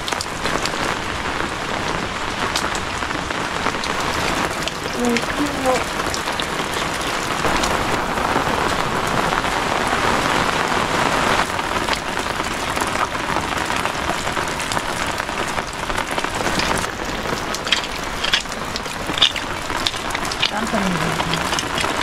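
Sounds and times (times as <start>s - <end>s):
steady rainfall: 0.0s - 22.0s.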